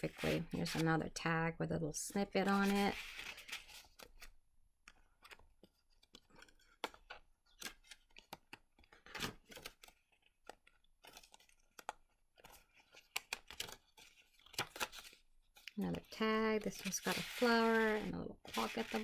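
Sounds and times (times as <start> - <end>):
paper pages rustling and crinkling: 2.3 - 19.0.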